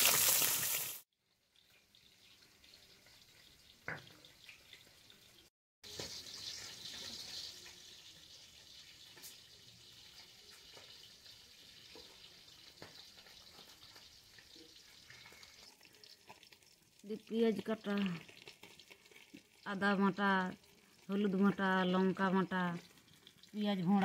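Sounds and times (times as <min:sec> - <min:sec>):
fish frying in oil: 0:00.0 - 0:24.0.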